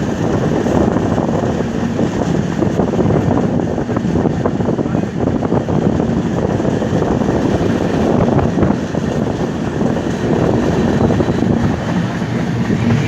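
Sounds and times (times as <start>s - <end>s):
train coach rumbling: 0.0s - 13.0s
wind buffeting microphone: 0.0s - 13.0s.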